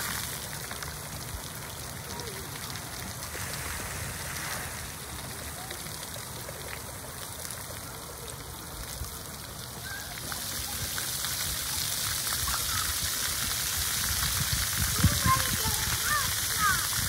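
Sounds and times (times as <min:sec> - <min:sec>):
water jets spraying on concrete: 0:00.0 - 0:17.0.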